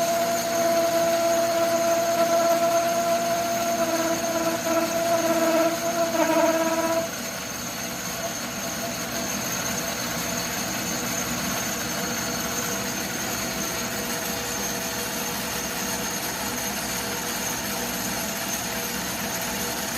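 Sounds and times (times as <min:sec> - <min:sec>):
lathe mechanical whir: 0:00.0 - 0:19.9
metal lathe cutting whine: 0:00.0 - 0:19.9.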